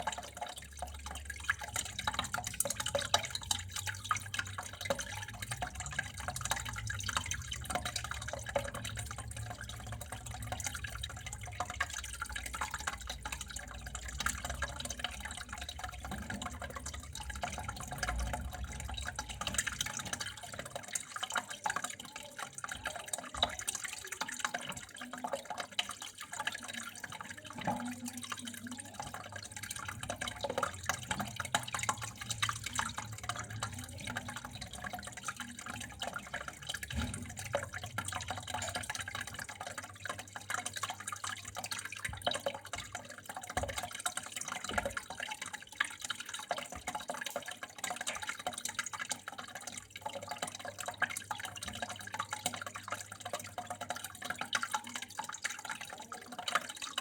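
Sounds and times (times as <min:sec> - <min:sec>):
water drips and splashes: 0:00.0 - 0:57.0
water trickling stream: 0:00.0 - 0:57.0.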